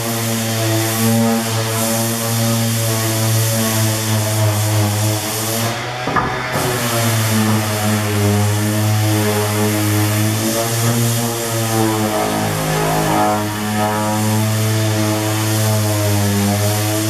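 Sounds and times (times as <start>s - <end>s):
power sander on wood: 0.0s - 17.0s.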